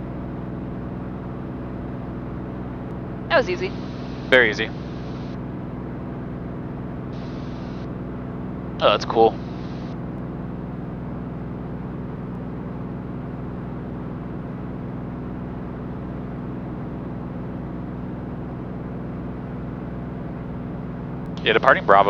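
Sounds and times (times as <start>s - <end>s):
aircraft engine and propeller droning: 0.0s - 22.0s.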